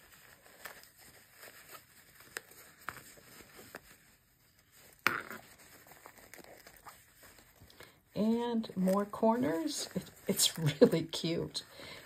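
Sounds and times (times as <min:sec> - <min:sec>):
fabric pouch rustling: 0:00.0 - 0:12.0.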